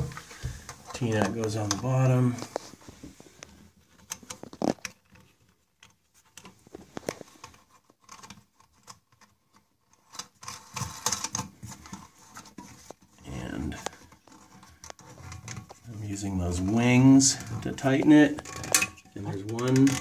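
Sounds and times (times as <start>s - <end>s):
plastic valve clicking and scraping: 0.0s - 20.0s.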